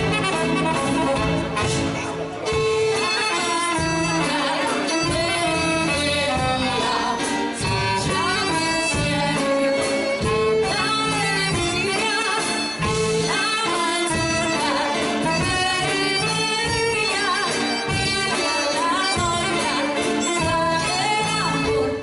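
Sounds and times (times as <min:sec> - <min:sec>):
live band music: 0:00.0 - 0:22.0
person singing: 0:00.0 - 0:22.0.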